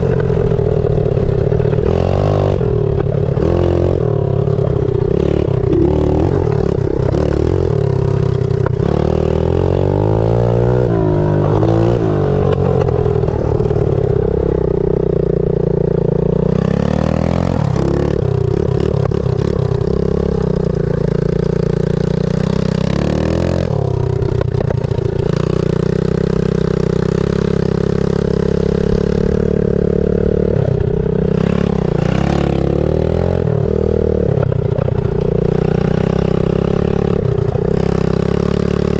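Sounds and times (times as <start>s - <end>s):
pit bike engine revving: 0.0s - 15.5s, 16.3s - 38.9s.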